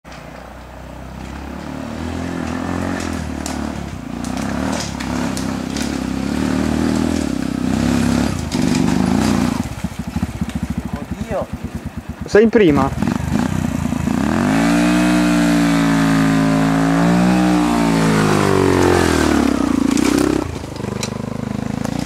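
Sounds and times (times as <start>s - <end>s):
motorcycle engine revving: 0.9s - 22.0s.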